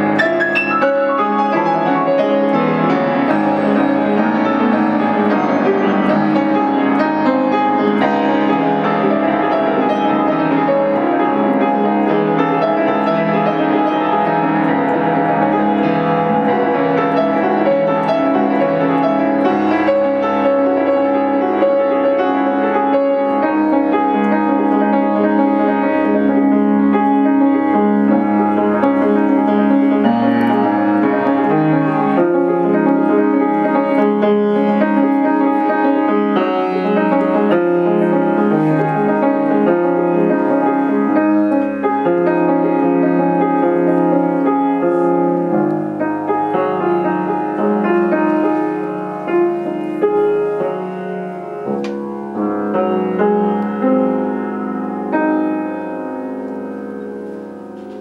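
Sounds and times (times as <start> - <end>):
grand piano chords: 0.0 - 58.0.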